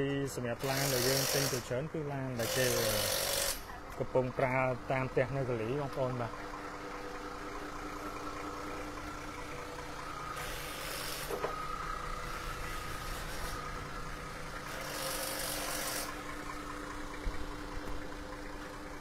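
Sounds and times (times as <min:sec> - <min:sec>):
forklift engine humming: 0:00.0 - 0:19.0.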